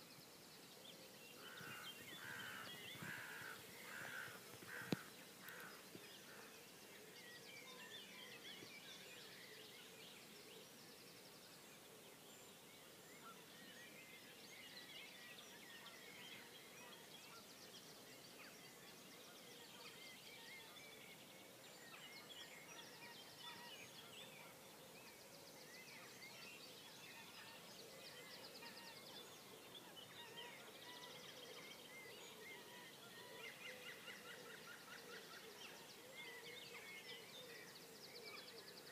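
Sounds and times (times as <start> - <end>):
faint birds singing: 0.0 - 38.9.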